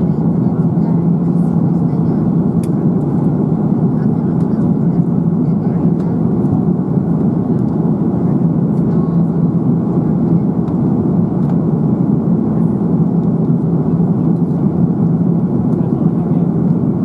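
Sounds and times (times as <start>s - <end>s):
roar of engines and airflow: 0.0s - 17.0s
steady low hum: 0.0s - 17.0s.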